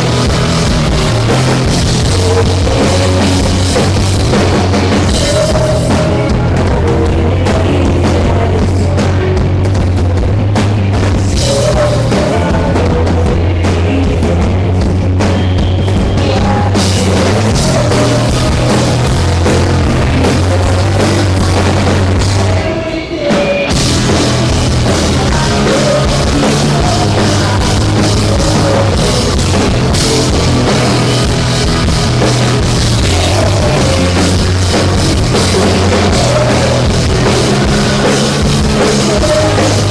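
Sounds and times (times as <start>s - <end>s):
drum kit: 0.0s - 39.9s
live rock band playing: 0.0s - 39.9s.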